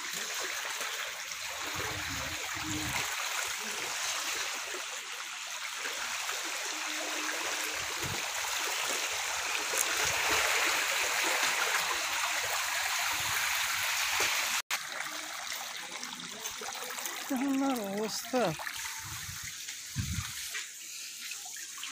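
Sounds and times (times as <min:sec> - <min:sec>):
floodwater running: 0:00.0 - 0:21.9.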